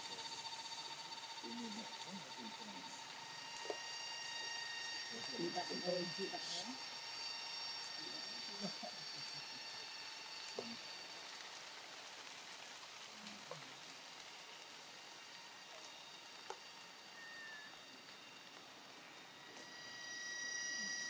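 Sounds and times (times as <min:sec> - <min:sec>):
high insect drone: 0:00.0 - 0:21.0
steady hiss: 0:00.0 - 0:21.0.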